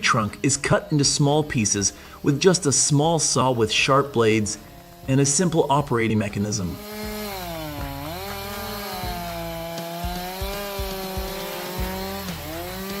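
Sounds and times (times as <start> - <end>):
engine-driven saw cutting log: 0.0 - 13.0.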